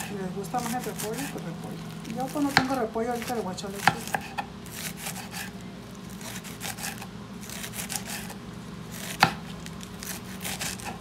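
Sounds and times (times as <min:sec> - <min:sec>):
knife slicing lettuce on board: 0:00.0 - 0:01.4, 0:02.1 - 0:11.0.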